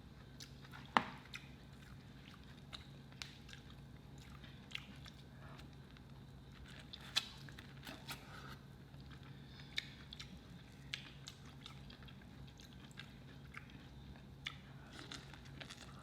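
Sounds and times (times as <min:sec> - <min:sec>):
soft chewing: 0:00.1 - 0:16.0.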